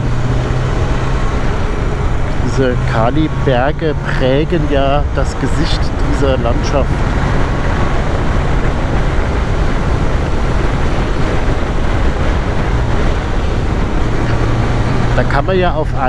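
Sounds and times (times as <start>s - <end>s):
motorcycle engine cruising: 0.0s - 16.0s
wind rush over microphone: 0.0s - 16.0s.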